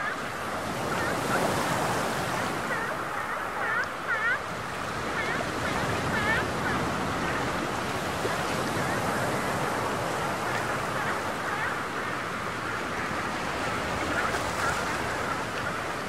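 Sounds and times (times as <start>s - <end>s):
choppy sea water rushing: 0.0s - 16.0s
wind: 0.0s - 16.0s.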